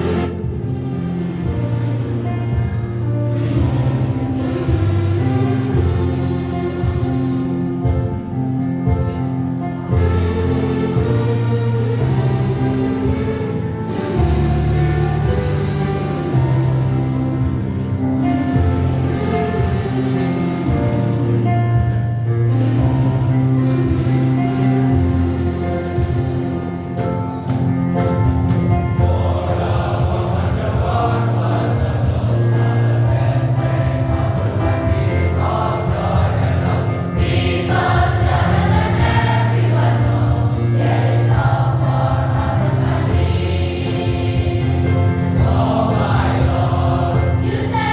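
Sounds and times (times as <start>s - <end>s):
choir singing in parts: 0.0s - 47.9s.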